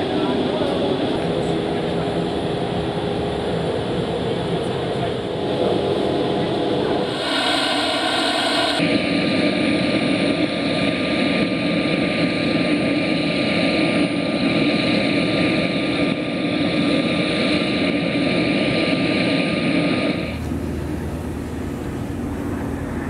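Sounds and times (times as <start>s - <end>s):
high engine whine: 0.0s - 23.0s
turboprop engines droning: 0.0s - 23.0s.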